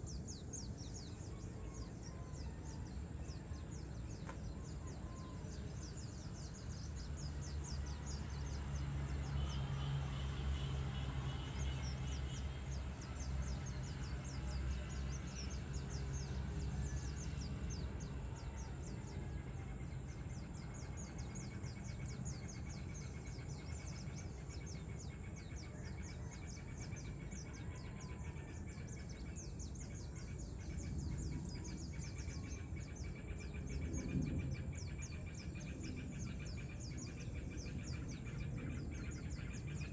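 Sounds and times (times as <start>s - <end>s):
distant city rumble: 0.0s - 39.9s.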